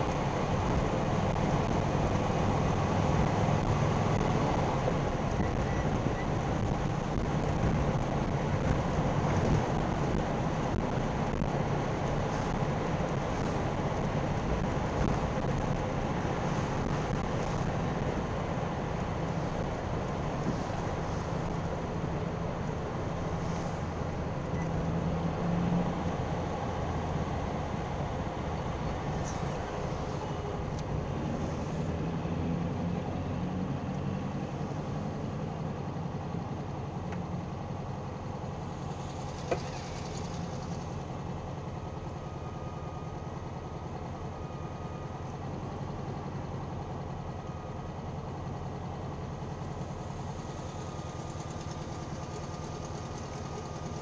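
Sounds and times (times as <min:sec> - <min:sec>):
car engine slowing and idling: 0:00.0 - 0:54.0
road noise: 0:00.0 - 0:54.0.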